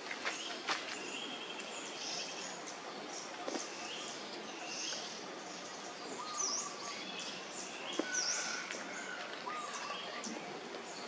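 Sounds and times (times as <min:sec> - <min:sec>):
outdoor background hiss: 0:00.0 - 0:11.0
birds chirping and calling: 0:00.1 - 0:11.0.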